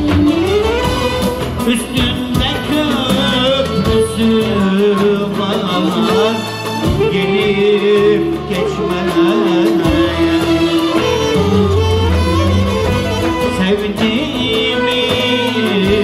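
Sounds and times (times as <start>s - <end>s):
violins and plucked strings: 0.0s - 16.0s
man singing folk song: 1.6s - 12.5s, 13.2s - 16.0s.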